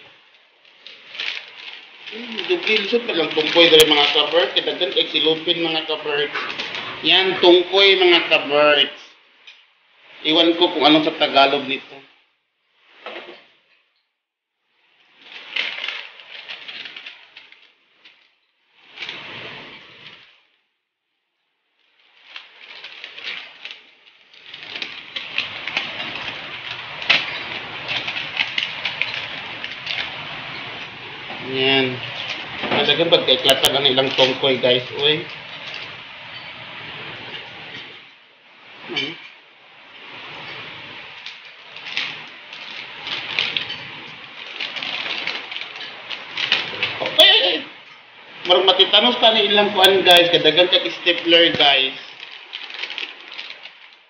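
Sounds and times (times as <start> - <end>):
plastic bag rustling and crinkling: 0.0 - 14.0, 14.6 - 54.0
broth boiling and bubbling: 0.0 - 54.0.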